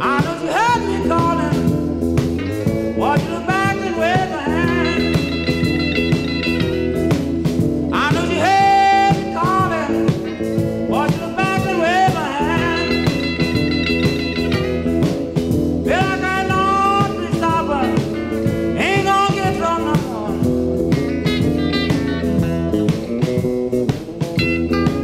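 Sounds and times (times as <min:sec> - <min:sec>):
blues record playing: 0:00.0 - 0:25.0.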